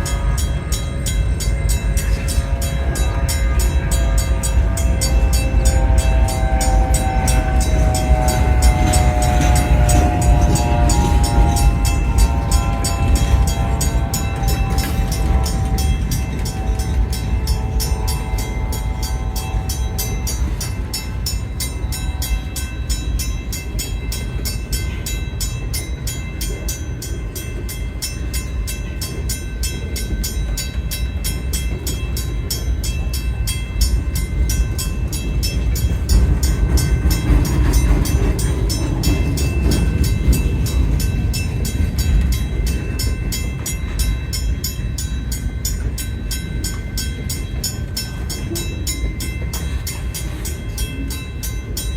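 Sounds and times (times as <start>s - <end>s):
train rolling past: 0.0s - 51.9s.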